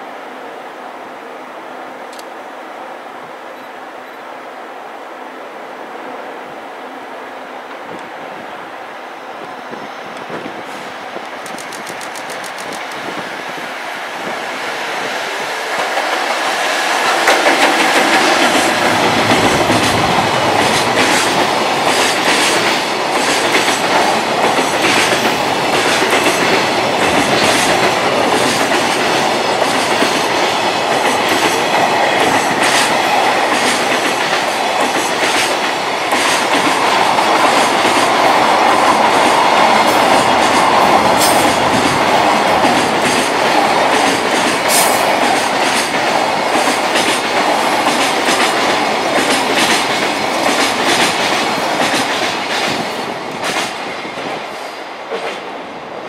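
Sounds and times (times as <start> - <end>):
freight train passing: 0.0 - 56.0.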